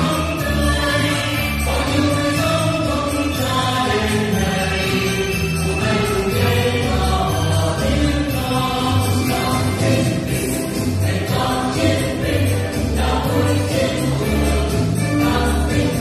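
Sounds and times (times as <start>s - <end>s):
song with group singing: 0.0s - 16.0s.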